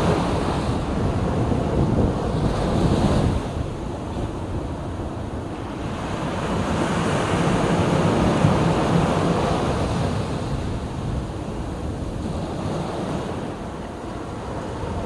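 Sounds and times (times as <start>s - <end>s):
sea waves breaking: 0.0s - 15.0s
wind rumbling on microphone: 0.0s - 15.0s.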